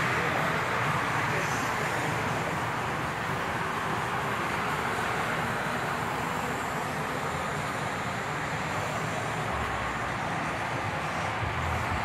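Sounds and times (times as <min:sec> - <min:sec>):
road traffic roar: 0:00.0 - 0:12.0.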